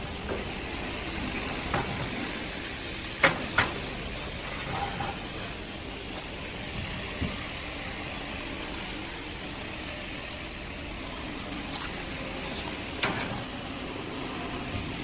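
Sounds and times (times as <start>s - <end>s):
workshop hiss: 0.0s - 15.0s.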